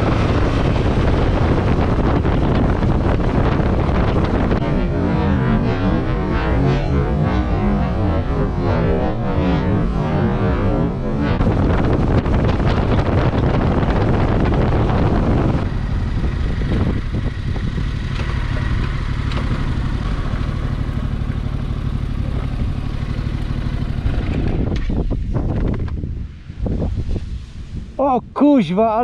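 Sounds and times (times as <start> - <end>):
motorcycle engine running: 0.0 - 26.4
wind rush on microphone: 0.0 - 29.0.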